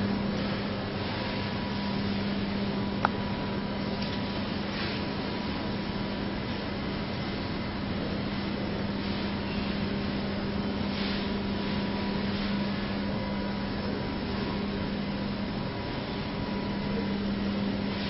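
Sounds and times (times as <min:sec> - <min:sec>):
machine hum with low drone: 0:00.0 - 0:18.0.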